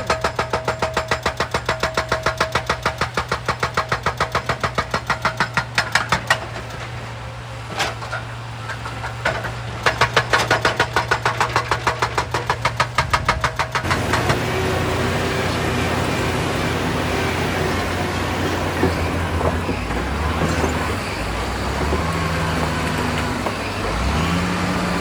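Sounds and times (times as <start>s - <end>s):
hydraulic rock breaker hammering rock: 0.0s - 7.0s, 7.7s - 25.0s
excavator engine running: 0.0s - 25.0s.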